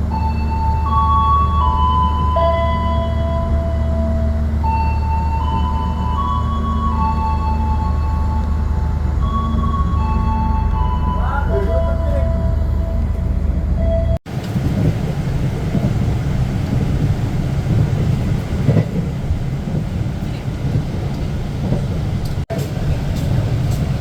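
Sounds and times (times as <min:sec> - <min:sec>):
train rumbling along the track: 0:00.0 - 0:24.0.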